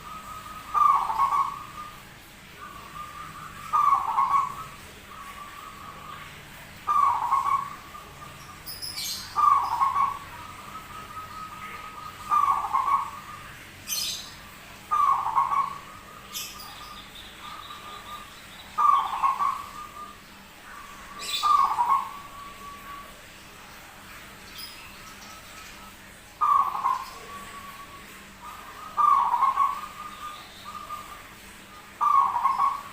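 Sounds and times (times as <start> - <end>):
high bird chirps: 0.0 - 23.2, 24.4 - 32.9
dove cooing: 0.0 - 32.9.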